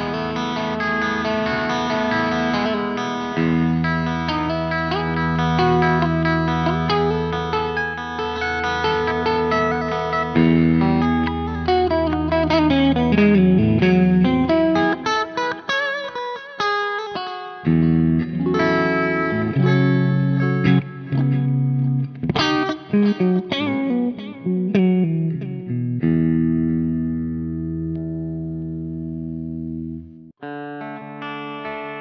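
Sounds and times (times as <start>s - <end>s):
electric guitar riff: 0.0s - 32.0s.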